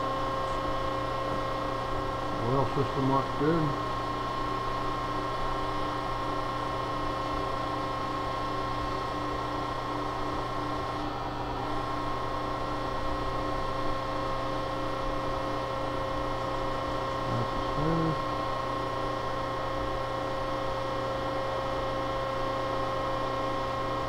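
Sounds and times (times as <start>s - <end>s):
grinder mechanical hum: 0.0s - 24.0s.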